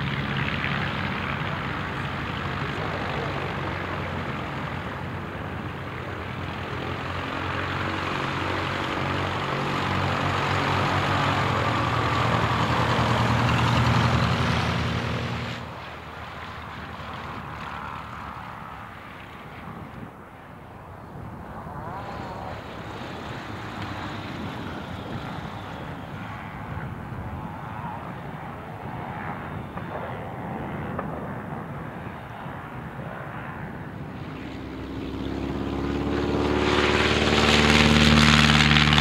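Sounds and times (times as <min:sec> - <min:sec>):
light aircraft engine and propeller: 0:00.0 - 0:39.0
light aircraft flying low: 0:00.0 - 0:39.0.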